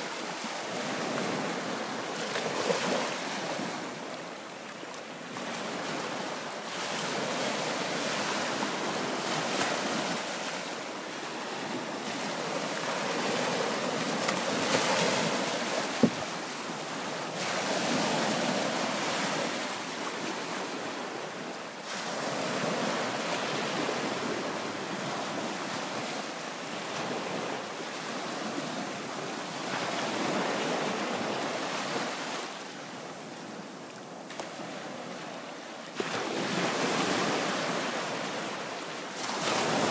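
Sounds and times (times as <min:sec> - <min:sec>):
waves lapping on shore: 0:00.0 - 0:39.9.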